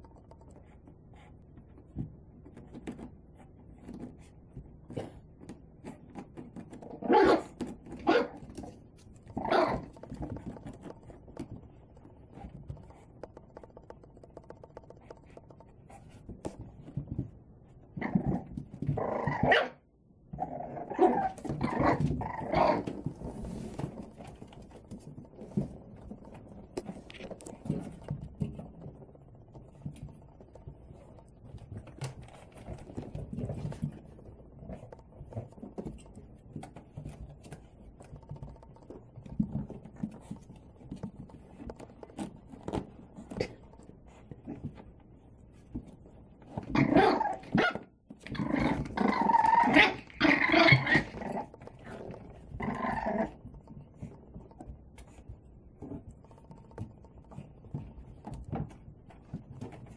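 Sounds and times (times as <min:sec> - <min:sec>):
paws scuffling: 0:00.1 - 0:19.0, 0:21.1 - 0:59.9.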